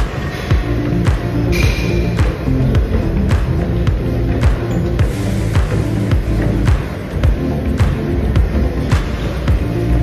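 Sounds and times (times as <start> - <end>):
background music with steady beat: 0.0 - 10.0
low bass line: 0.0 - 10.0.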